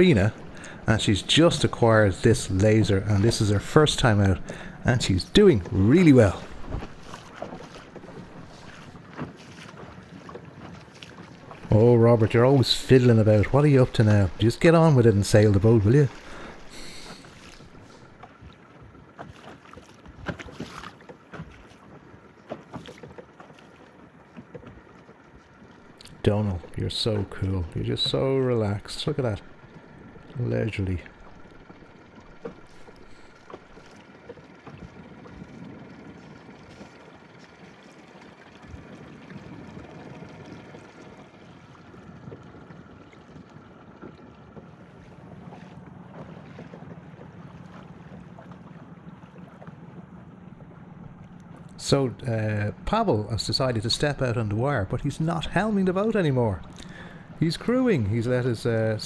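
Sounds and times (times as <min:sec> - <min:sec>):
faint steady hum: 0:00.0 - 0:10.0, 0:10.6 - 0:18.8, 0:25.3 - 0:40.2, 0:44.8 - 0:59.0
water lapping against boat hull: 0:00.0 - 0:59.0.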